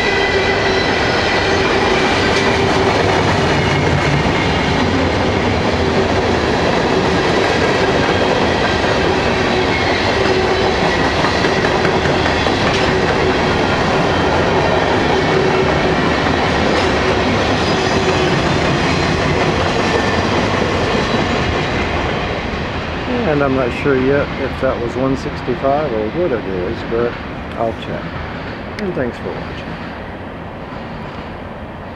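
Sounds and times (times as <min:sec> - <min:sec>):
freight train wheels rumbling: 0:00.0 - 0:31.9.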